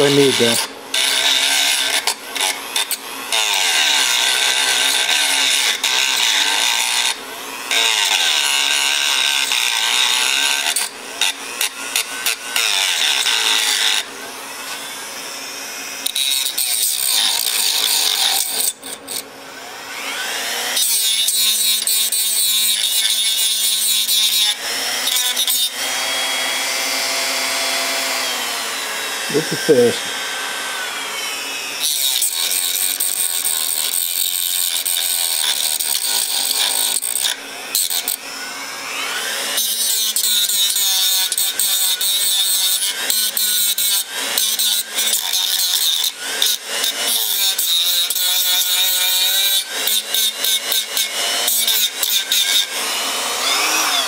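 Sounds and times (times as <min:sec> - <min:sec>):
rotary tool grinding metal: 0:00.0 - 0:54.0.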